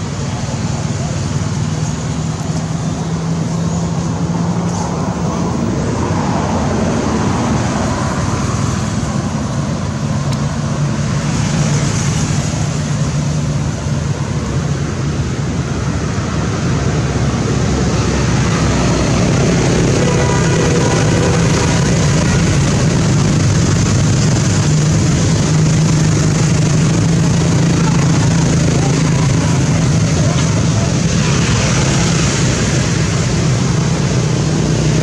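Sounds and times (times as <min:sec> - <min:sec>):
traffic engine hum: 0:00.0 - 0:35.0.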